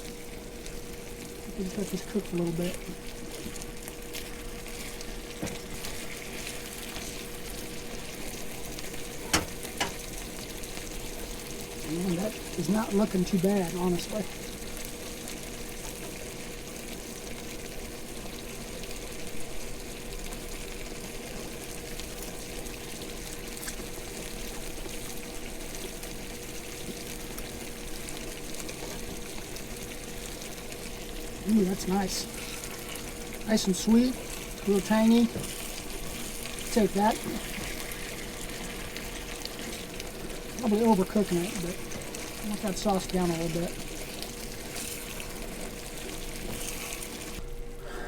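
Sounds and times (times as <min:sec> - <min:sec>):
food sizzling in a skillet: 0:00.0 - 0:48.0.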